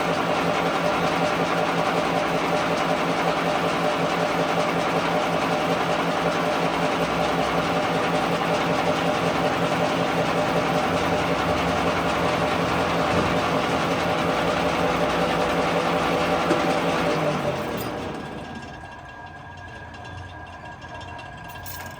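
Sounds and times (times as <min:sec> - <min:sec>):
workshop machine humming: 0:00.0 - 0:21.9.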